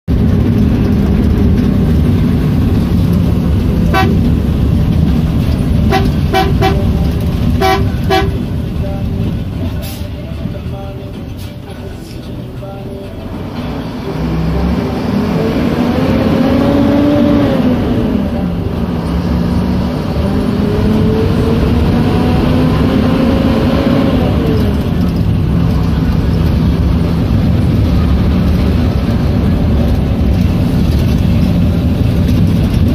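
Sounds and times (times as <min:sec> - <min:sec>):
road noise: 0:00.0 - 0:32.9
bus engine changing gear: 0:00.1 - 0:32.9.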